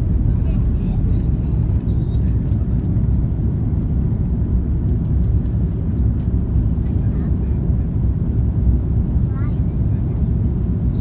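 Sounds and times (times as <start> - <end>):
airplane cabin low rumble: 0.0 - 11.0.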